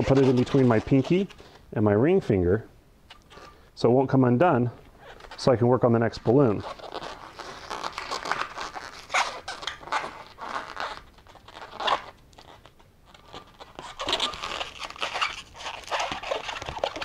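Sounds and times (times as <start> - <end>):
balloons rubbing and squeezing: 0.0 - 1.6, 3.3 - 3.6, 5.0 - 17.0.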